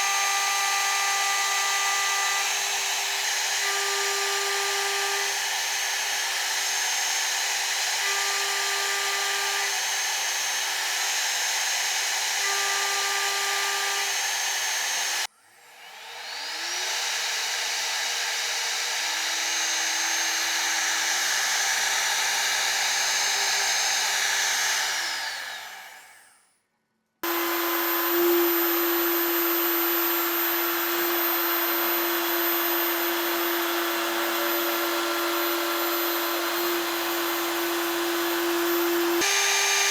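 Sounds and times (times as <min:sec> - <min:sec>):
milling machine spindle cutting: 0:00.0 - 0:26.4, 0:27.2 - 0:39.9.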